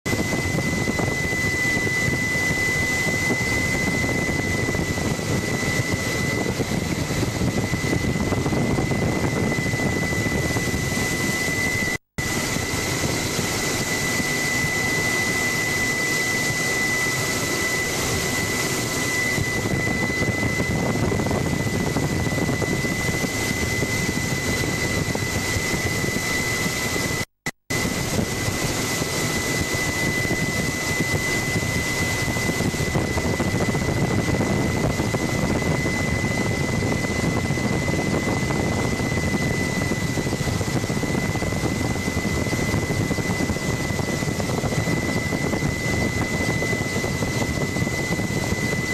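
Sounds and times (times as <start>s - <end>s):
helicopter engine and rotor noise: 0.0s - 48.9s
high-pitched whine: 0.1s - 48.9s.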